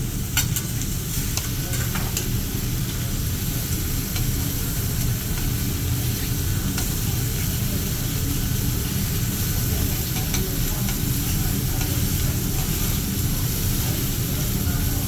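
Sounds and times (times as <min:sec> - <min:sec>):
food sizzling on a griddle: 0:00.0 - 0:15.0
steady low hum: 0:00.0 - 0:15.0.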